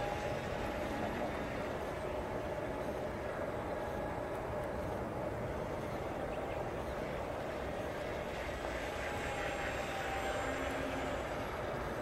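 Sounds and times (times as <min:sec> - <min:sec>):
model aircraft propellers humming: 0:00.0 - 0:12.0.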